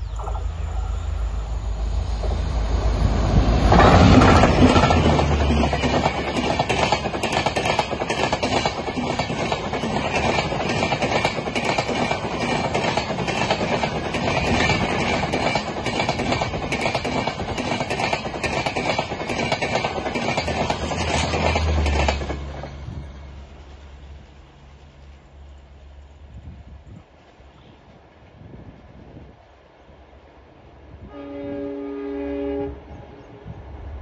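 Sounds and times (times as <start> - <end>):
train wheels rushing on rail: 0.0 - 31.7.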